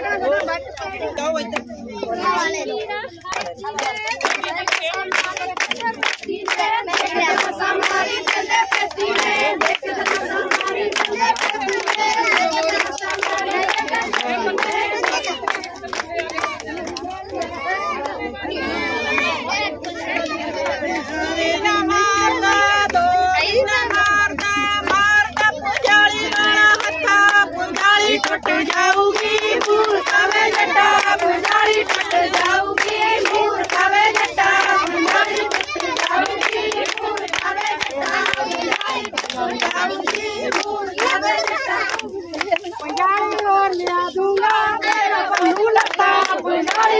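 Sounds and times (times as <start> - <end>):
voices singing together: 0.0 - 46.9
women clapping in time: 2.9 - 18.2, 19.2 - 46.9.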